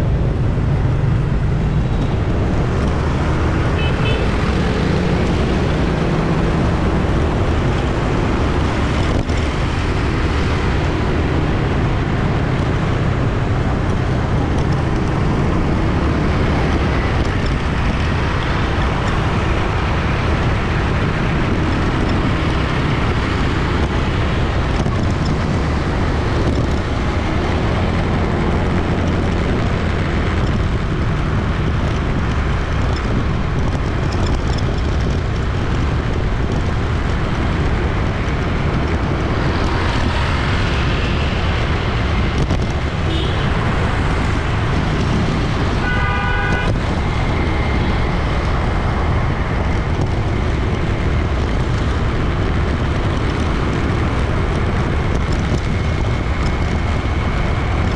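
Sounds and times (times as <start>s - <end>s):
city street traffic drone: 0.0s - 57.9s.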